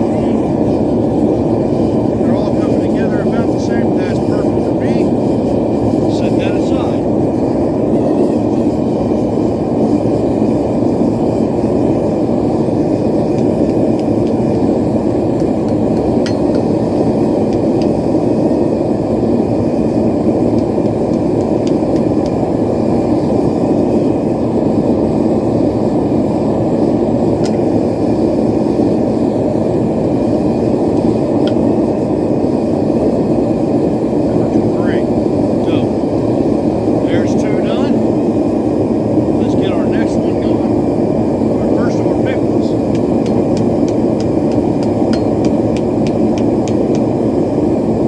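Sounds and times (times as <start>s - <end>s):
forge burner rushing: 0.0s - 48.0s.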